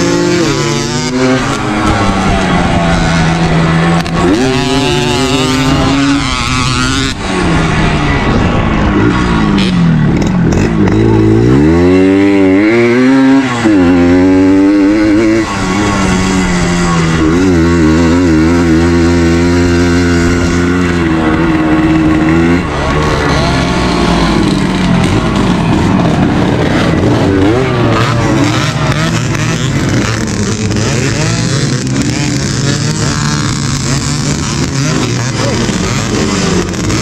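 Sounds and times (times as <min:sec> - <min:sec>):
two-stroke motorcycle engine revving: 0:00.0 - 0:37.0.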